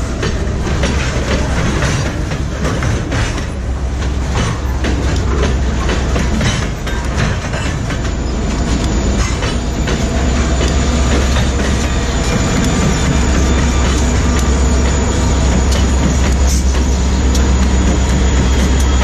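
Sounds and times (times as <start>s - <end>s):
diesel locomotive engines droning: 0.0s - 19.0s
freight train rumble: 0.0s - 19.0s
train wheels clicking over rail joints: 0.0s - 19.0s.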